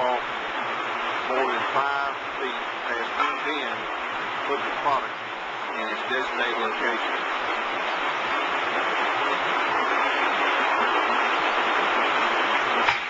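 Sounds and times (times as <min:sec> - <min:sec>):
conveyor running: 0:00.0 - 0:13.0.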